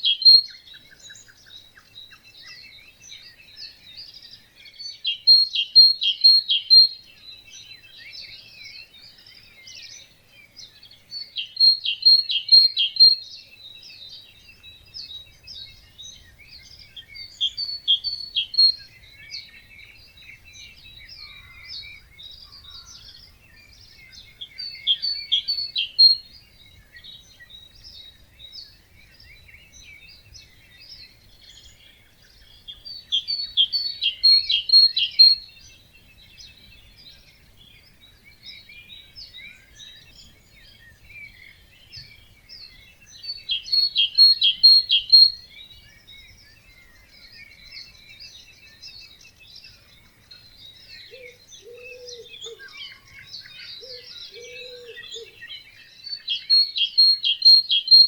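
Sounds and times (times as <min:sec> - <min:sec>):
faint birds chirping: 0:00.0 - 0:58.0.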